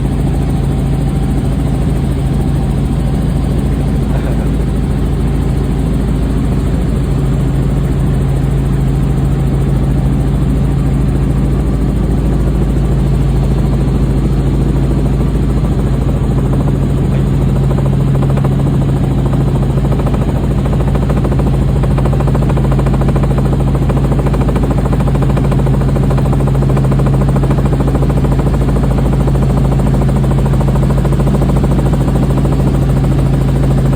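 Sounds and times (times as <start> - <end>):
helicopter turbine and rotor drone: 0.0 - 33.9.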